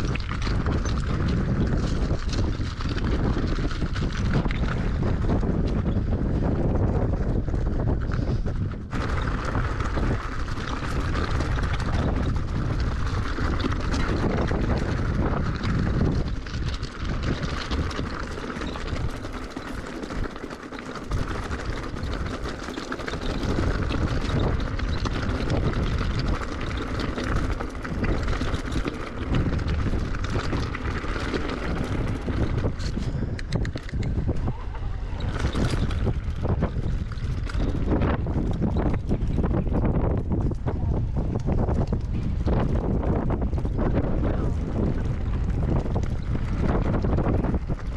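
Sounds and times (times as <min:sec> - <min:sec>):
bike rattling: 0:00.0 - 0:47.9
wind rumbling on microphone: 0:00.0 - 0:47.9.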